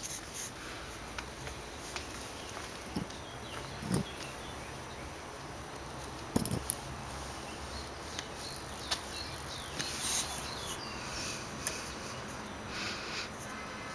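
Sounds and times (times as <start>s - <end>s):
steady background hiss: 0.0s - 13.9s.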